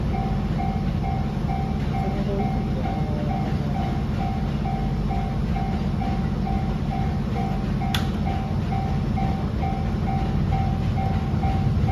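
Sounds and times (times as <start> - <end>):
level crossing warning bell: 0.0 - 11.9.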